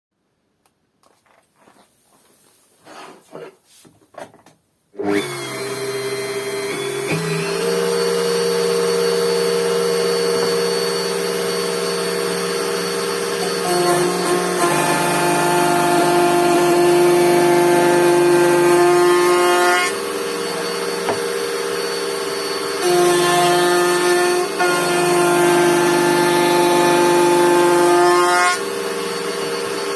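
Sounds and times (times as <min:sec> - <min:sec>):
electric router whining: 0:05.0 - 0:29.9.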